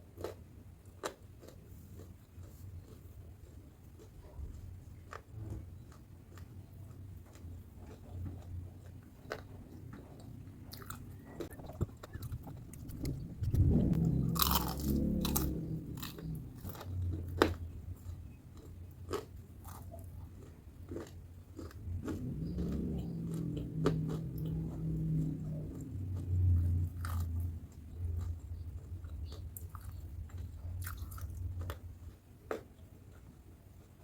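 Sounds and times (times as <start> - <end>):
chewing crispy fried food: 0.0 - 34.0.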